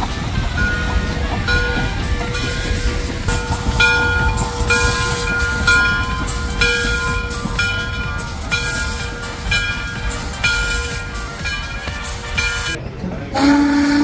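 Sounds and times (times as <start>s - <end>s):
locomotive bell ringing: 0.0s - 14.0s
locomotive engine rumble: 0.0s - 14.0s.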